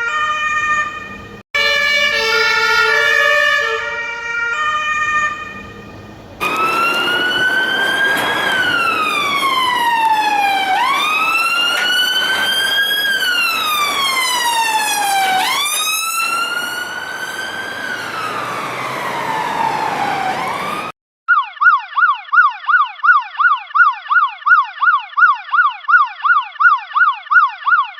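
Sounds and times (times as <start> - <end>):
police siren wailing: 0.0 - 27.9
siren fast yelp: 0.0 - 27.9.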